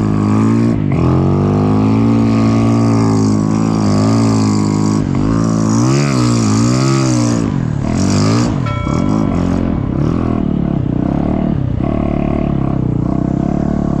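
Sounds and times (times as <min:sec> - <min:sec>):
snow bike engine revving: 0:00.0 - 0:14.0.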